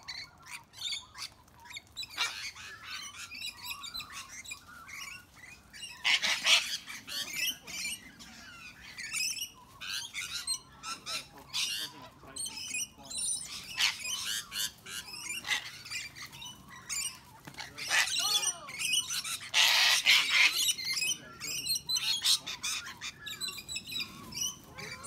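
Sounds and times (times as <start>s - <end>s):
flock of parrots squawking: 0.0s - 25.0s.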